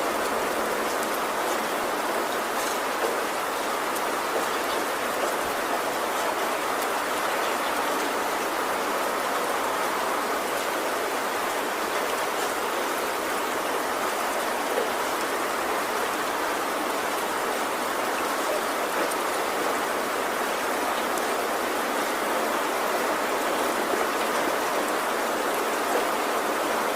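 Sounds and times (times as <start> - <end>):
heavy rain on a tin roof: 0.0 - 26.9.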